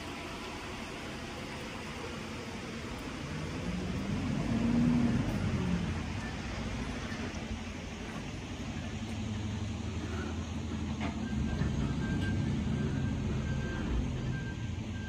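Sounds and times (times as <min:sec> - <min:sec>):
vehicle engine passing: 0:02.8 - 0:14.9.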